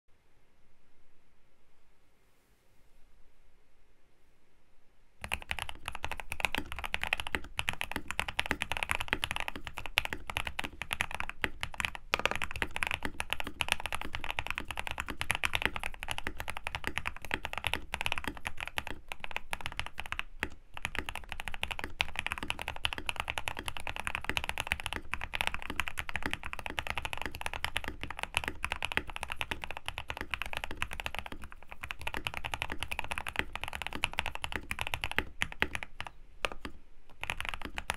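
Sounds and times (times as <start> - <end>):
mechanical keyboard typing: 5.2 - 37.9.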